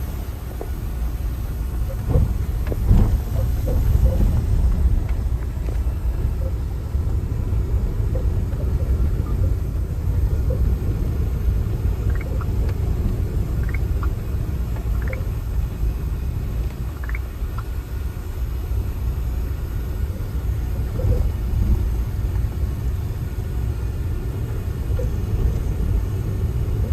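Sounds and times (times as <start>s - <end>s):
van road and engine rumble: 0.0s - 26.9s.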